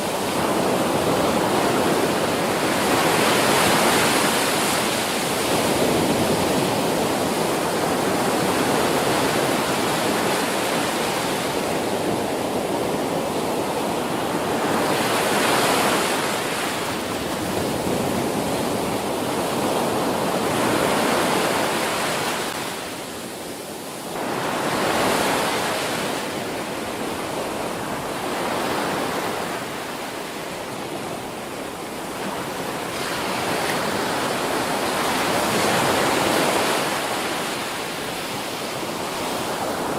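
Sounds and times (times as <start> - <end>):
ocean waves crashing: 0.0 - 39.9.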